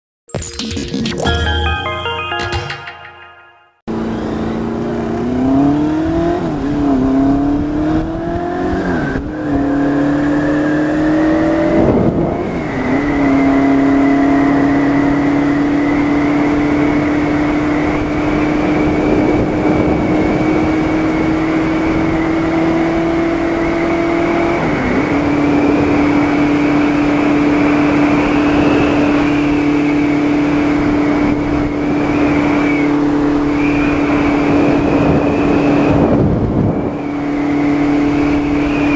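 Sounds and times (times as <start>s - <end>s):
road and wind noise: 3.9s - 38.9s.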